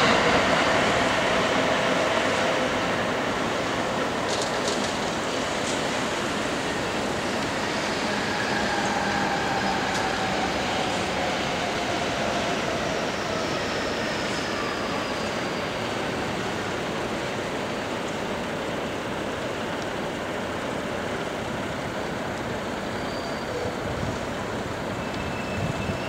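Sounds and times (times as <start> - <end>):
city traffic noise: 0.0 - 26.0
electric train whine: 0.0 - 26.0.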